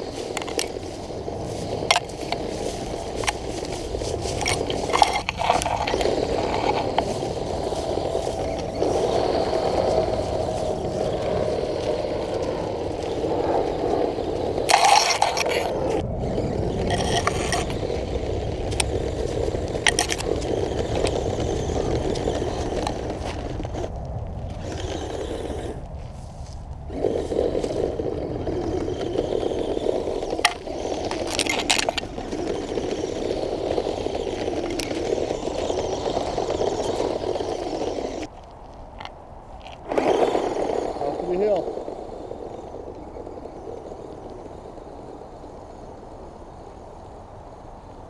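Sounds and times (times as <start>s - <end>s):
grass scraping and rustling: 0.0s - 43.4s
electric drivetrain whirring: 0.0s - 48.0s.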